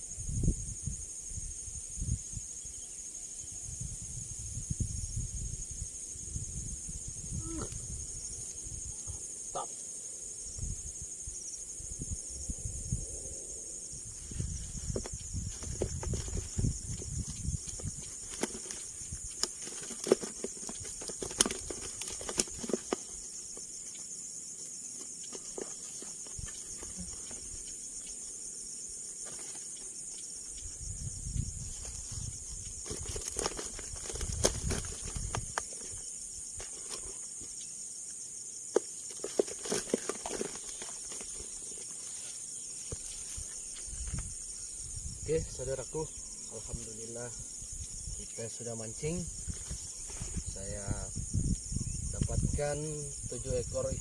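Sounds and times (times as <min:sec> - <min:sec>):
high drone of insects: 0:00.0 - 0:54.0.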